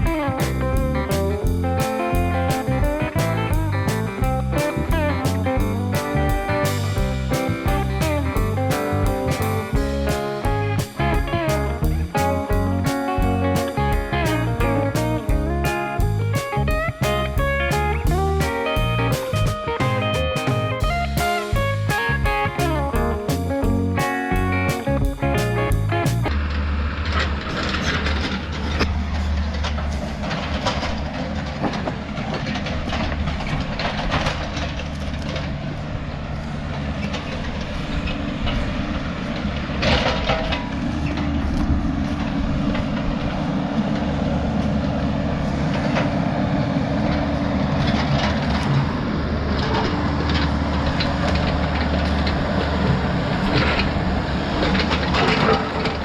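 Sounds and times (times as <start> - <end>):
diesel engine running under load: 0.0 - 19.5, 25.7 - 56.0.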